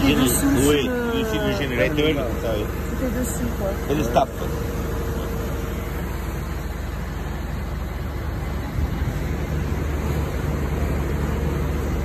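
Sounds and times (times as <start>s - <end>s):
generator drone: 0.0s - 12.0s.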